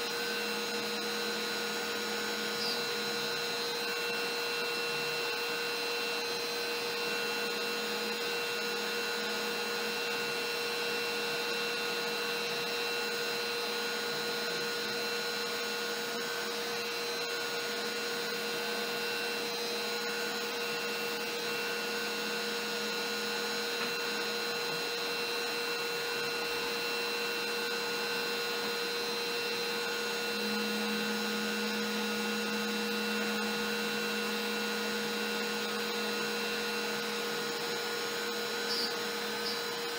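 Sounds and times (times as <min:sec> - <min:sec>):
router whine: 0:00.0 - 0:39.9.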